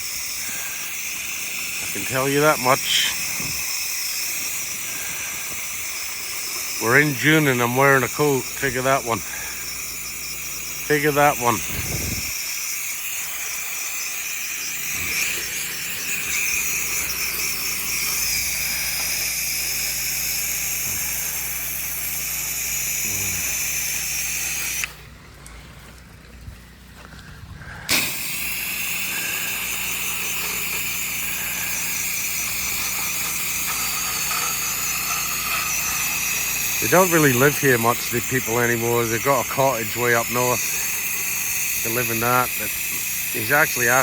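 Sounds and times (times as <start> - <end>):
spray hissing: 0.0 - 25.0, 27.9 - 44.0
pump humming: 0.0 - 44.0.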